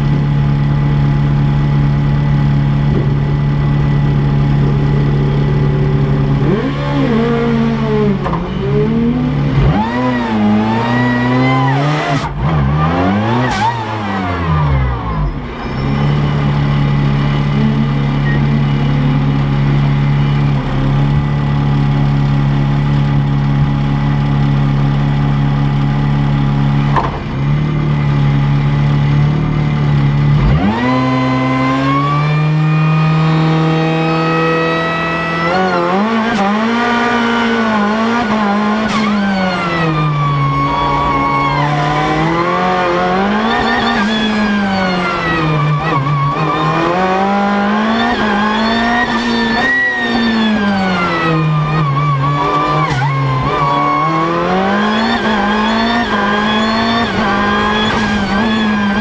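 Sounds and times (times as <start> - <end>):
race car engine revving and idling: 0.0 - 59.0.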